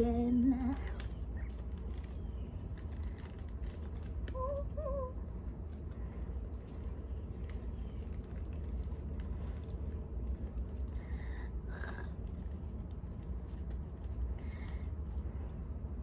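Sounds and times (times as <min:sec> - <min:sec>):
twigs clicking and rustling: 0:00.0 - 0:15.6
steady low rumble: 0:00.0 - 0:16.0.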